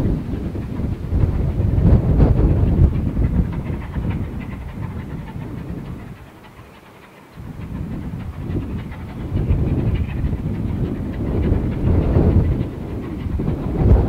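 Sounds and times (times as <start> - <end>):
steam locomotive exhaust beat: 0.0 - 14.0.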